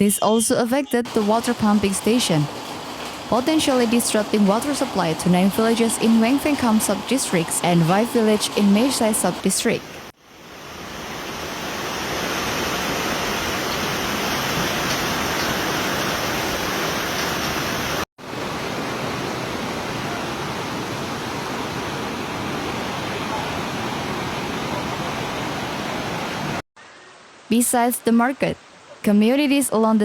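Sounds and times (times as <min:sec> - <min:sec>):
floodwater rushing: 0:01.1 - 0:26.6.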